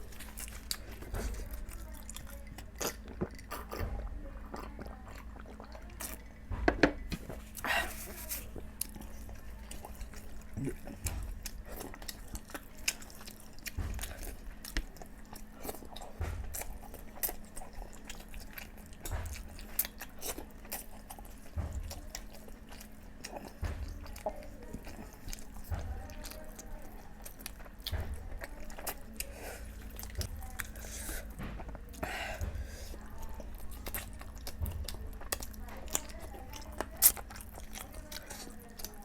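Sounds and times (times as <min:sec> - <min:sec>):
close chewing and biting: 0:00.0 - 0:39.0.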